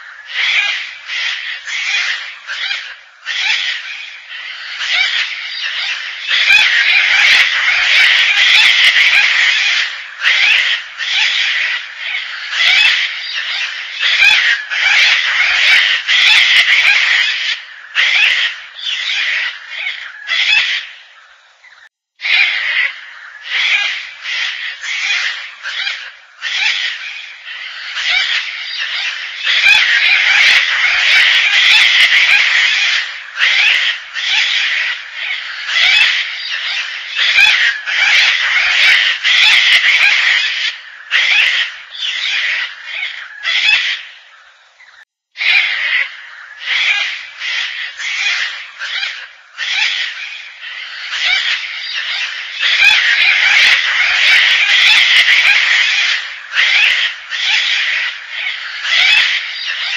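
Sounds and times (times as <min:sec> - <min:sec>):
cockatoo harsh rasping calls: 0:00.0 - 0:59.9.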